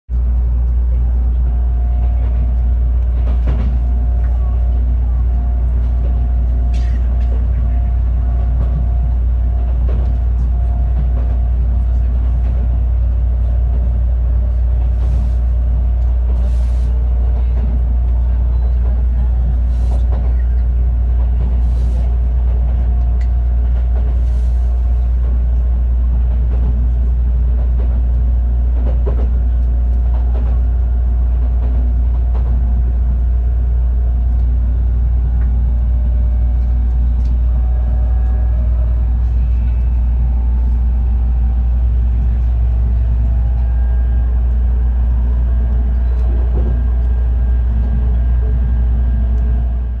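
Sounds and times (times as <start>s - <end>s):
train rumble inside cabin: 0.1s - 50.0s.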